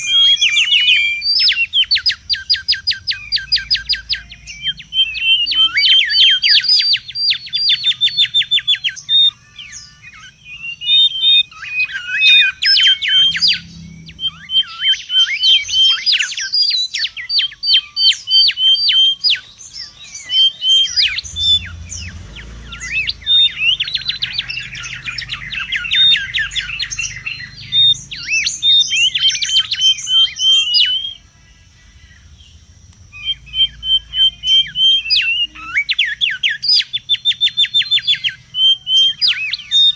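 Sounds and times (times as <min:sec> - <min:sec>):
bird whistling calls: 0:00.0 - 0:39.9.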